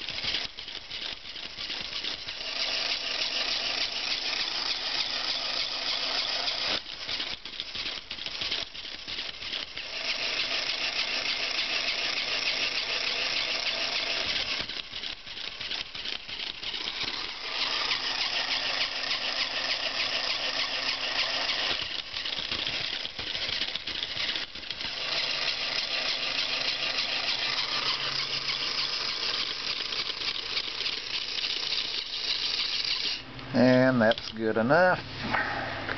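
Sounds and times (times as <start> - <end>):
toy motor whirring and rattling: 0.0 - 35.6.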